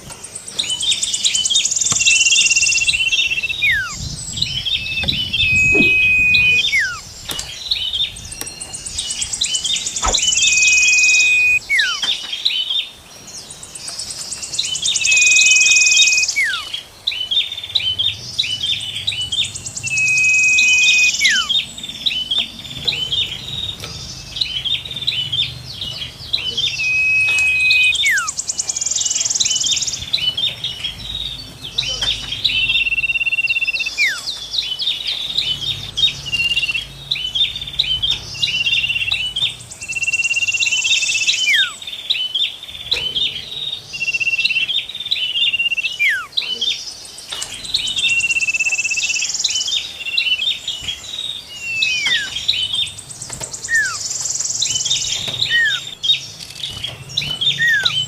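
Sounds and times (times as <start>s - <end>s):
songbirds singing: 0.0s - 58.0s
high buzzy bird trills: 1.0s - 12.2s, 14.6s - 42.0s, 43.8s - 46.4s, 51.5s - 58.0s.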